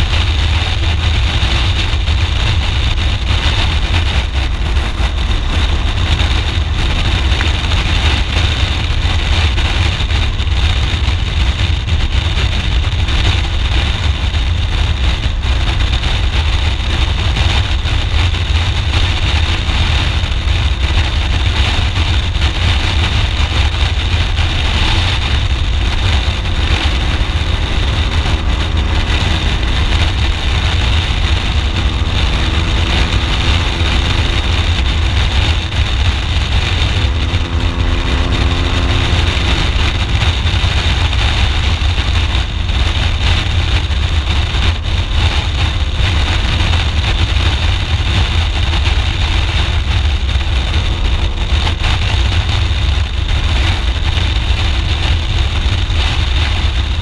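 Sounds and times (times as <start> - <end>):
motorcycle engine: 0.0 - 57.0
wind rush on microphone: 0.0 - 57.0.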